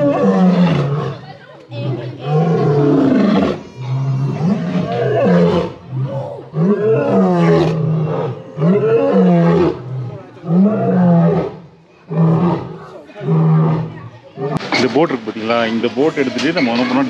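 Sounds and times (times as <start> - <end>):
lions roaring and growling: 0.0 - 14.9.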